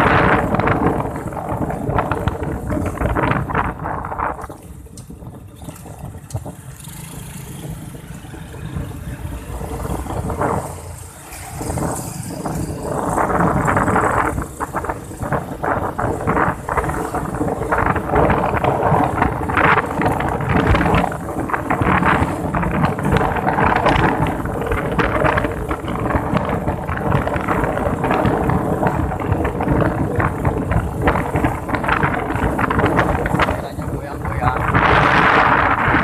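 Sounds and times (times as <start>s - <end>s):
moving vehicle running noise: 0.0s - 36.0s
wind buffeting microphone: 0.0s - 36.0s.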